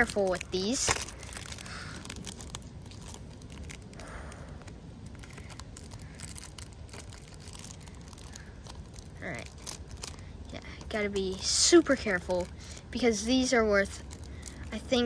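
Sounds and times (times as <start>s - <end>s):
plastic film crinkling: 0.0s - 15.0s.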